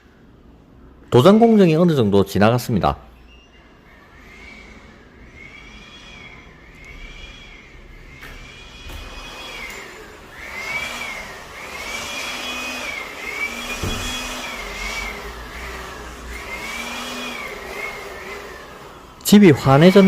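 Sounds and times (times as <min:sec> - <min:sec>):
small electric motor whining: 0:03.5 - 0:20.0.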